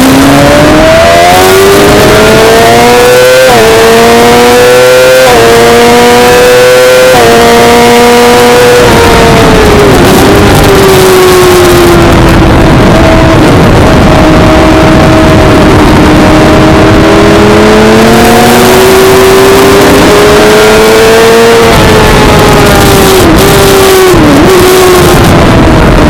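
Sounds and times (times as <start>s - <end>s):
heavy wind rush: 0.0s - 26.0s
motorcycle engine at high revs: 0.0s - 26.0s.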